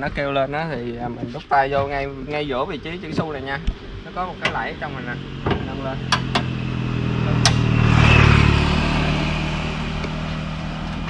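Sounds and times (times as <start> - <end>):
car engine idling: 1.0 - 11.0.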